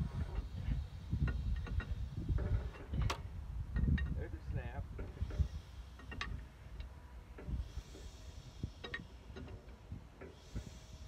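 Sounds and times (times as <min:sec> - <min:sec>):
soft hiss: 0:00.0 - 0:11.0.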